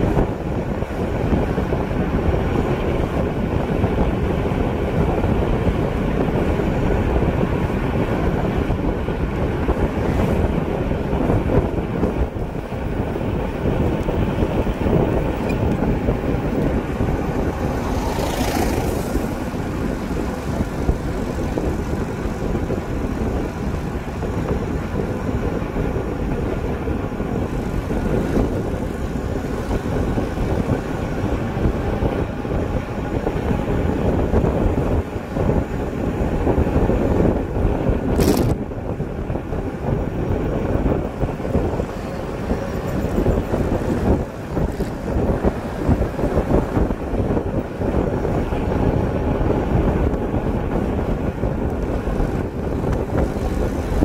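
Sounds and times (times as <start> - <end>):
road noise from vehicle: 0.0 - 54.0
wind rushing over microphone: 0.0 - 54.0.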